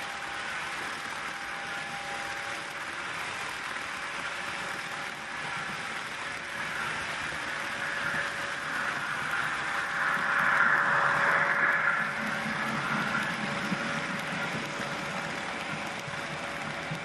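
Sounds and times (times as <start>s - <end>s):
faint hum: 0.0s - 17.0s
model trains rolling on track: 0.0s - 17.0s.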